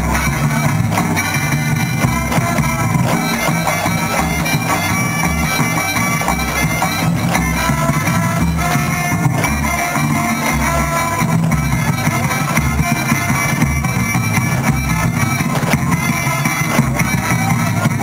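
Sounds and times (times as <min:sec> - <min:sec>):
folk dance music: 0:00.0 - 0:18.0.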